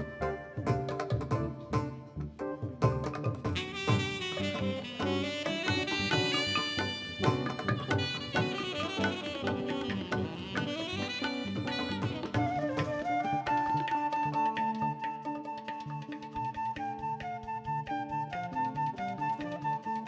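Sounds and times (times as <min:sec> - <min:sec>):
hand drum percussion: 0:00.0 - 0:20.0
wind instrument playing fast runs: 0:03.5 - 0:20.0.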